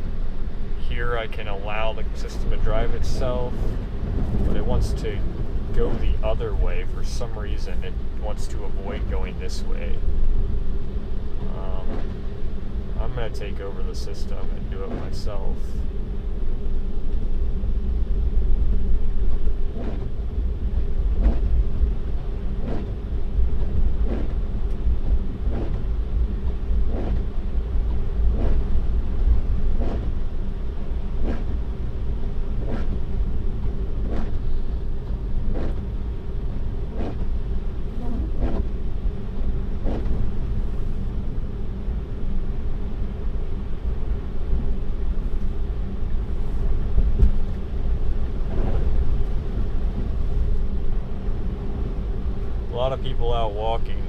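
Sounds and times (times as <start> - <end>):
faint steady hum: 0.0 - 54.0
road and tyre rumble: 0.0 - 54.0.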